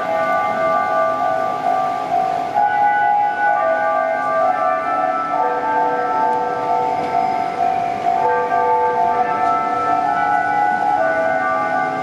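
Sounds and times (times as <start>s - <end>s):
level-crossing alarm bell: 0.0s - 12.0s.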